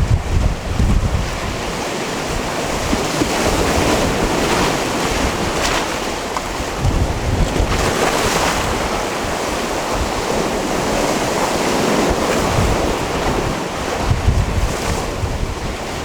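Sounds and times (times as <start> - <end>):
waves washing onto rocky shore: 0.0 - 16.0.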